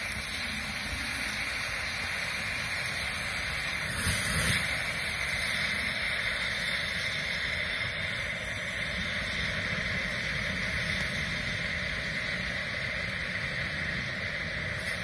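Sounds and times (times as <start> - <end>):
fuse burning with rushing hiss: 0.0 - 15.0.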